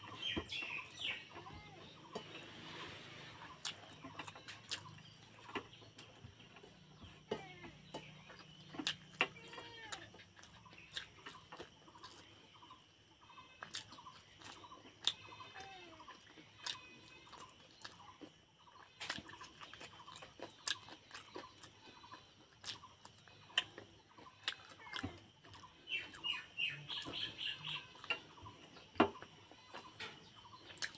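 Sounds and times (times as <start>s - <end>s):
birds calling: 0.0s - 30.9s.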